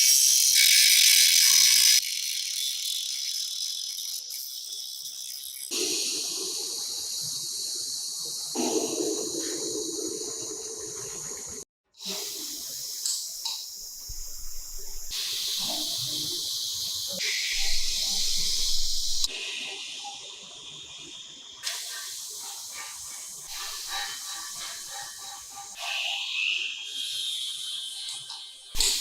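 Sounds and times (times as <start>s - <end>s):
high-pitched spray hiss: 0.0s - 10.7s, 12.0s - 29.0s.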